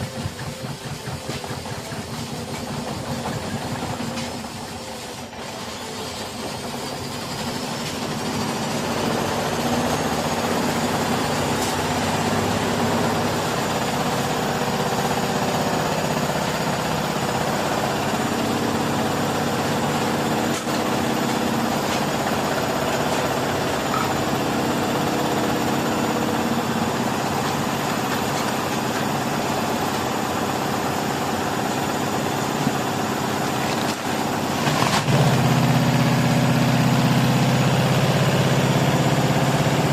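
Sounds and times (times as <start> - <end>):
washing machine drum spinning: 0.0 - 39.9.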